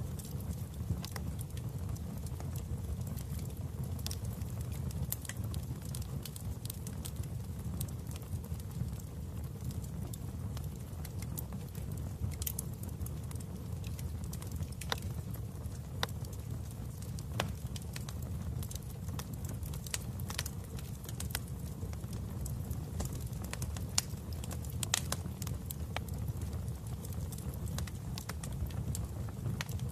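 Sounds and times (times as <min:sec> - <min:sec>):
fire crackling and popping: 0:00.0 - 0:29.9
low rumble of flames: 0:00.0 - 0:29.9.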